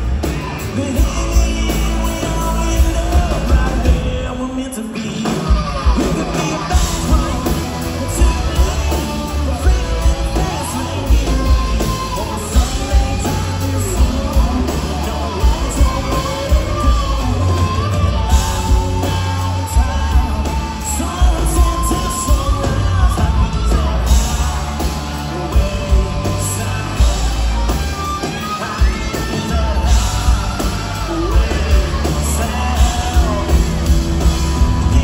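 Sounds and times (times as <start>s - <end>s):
lead vocals singing: 0.0s - 35.0s
live rock band playing: 0.0s - 35.0s.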